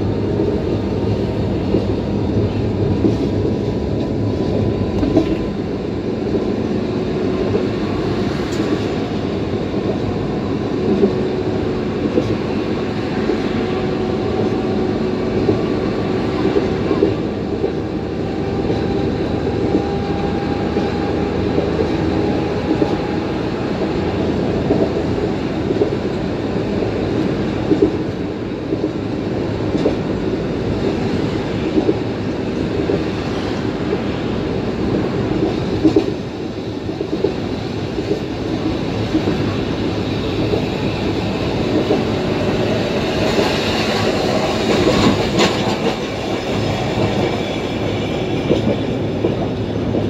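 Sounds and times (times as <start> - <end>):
streetcar running on track: 0.0 - 50.0.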